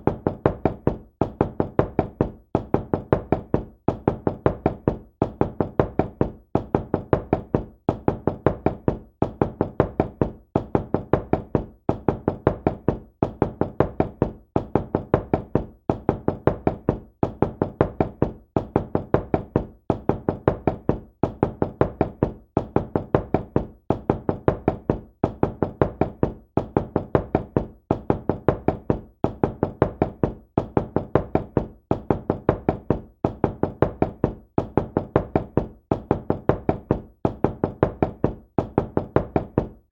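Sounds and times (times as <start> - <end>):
knocking on a door: 0.0 - 39.9.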